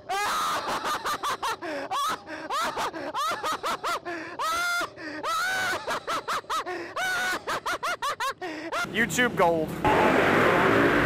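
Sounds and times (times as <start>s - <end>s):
person laughing hysterically: 0.0s - 9.0s.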